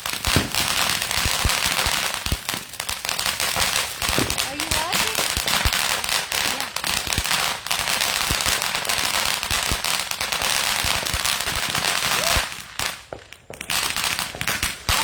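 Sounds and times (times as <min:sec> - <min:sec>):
firecrackers popping: 0:00.0 - 0:15.0.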